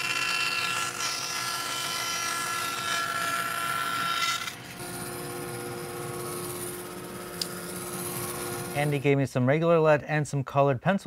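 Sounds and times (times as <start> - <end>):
bandsaw cutting wood: 0.0 - 9.1.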